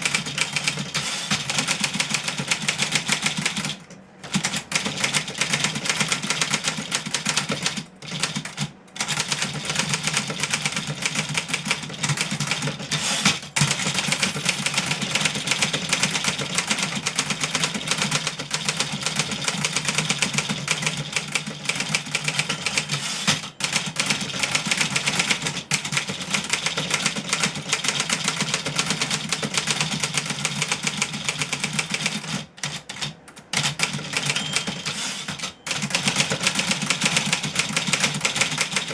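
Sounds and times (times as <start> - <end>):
typewriter keystrokes clattering: 0.0 - 38.9.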